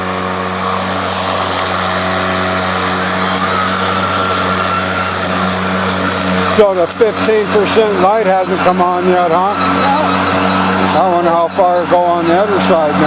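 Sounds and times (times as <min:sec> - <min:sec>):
electric lawn mower running: 0:00.0 - 0:13.0.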